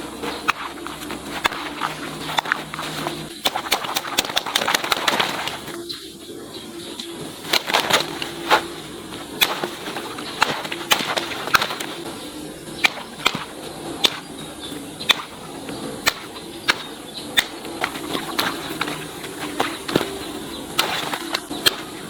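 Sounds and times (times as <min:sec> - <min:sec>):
faint steady background noise: 0:00.0 - 0:22.0.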